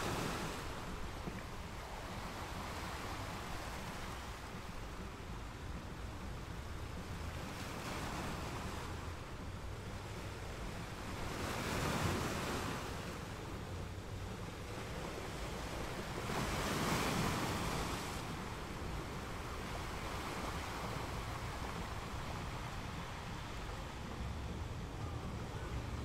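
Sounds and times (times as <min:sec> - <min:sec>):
surf washing over rocks: 0:00.0 - 0:26.0
wind rumble on microphone: 0:00.0 - 0:26.0.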